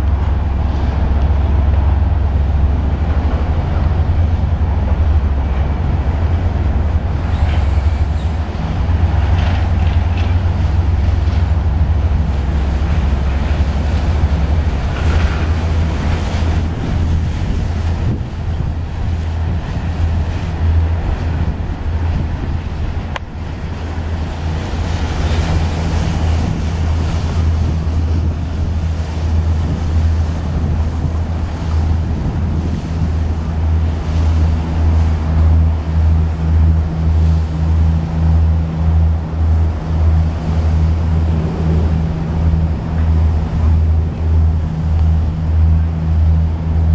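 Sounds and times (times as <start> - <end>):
boat engine drone: 0.0 - 46.9
choppy water: 0.0 - 46.9
wind on microphone: 0.0 - 46.9.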